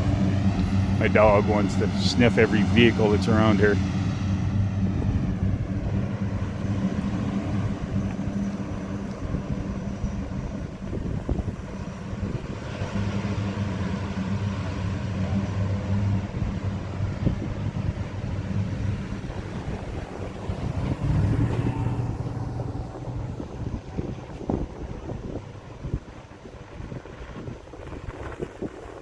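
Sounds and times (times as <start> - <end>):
low engine hum: 0.0 - 29.0
outdoor noise: 0.0 - 29.0.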